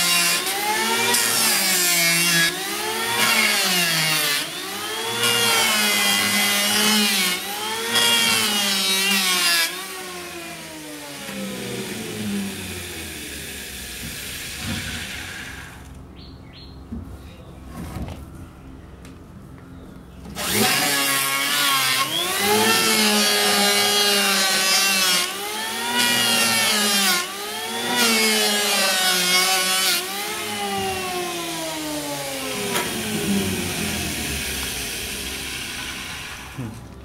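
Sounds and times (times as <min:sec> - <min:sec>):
electric planer whine: 0:00.0 - 0:16.0, 0:20.2 - 0:37.0
planer cutting wood hiss: 0:00.0 - 0:16.0, 0:20.4 - 0:37.0.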